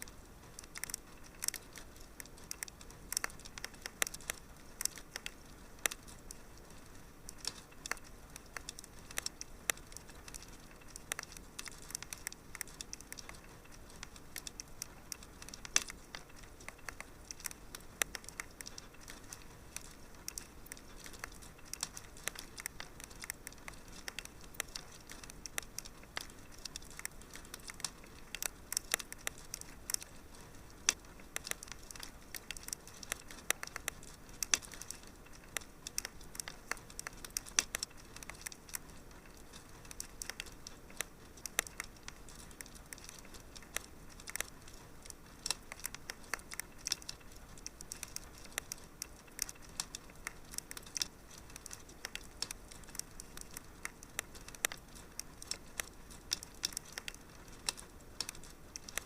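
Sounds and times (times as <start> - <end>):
soft steady hiss: 0.0 - 59.0
wood fire popping and snapping: 0.0 - 59.0.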